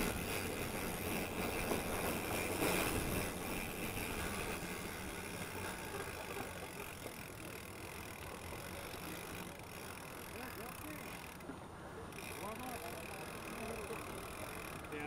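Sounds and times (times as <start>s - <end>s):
bike tyres rolling on dirt: 0.0s - 11.4s, 12.1s - 15.0s.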